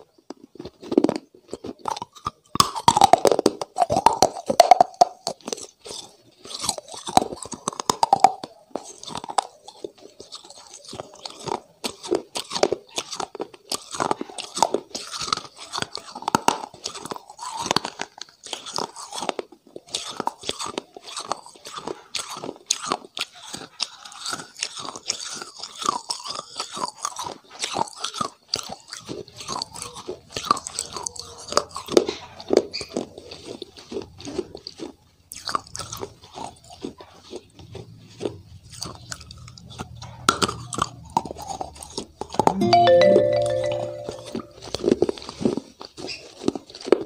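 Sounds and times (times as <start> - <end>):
person crunching and chewing: 0.1 - 42.6, 44.9 - 47.0.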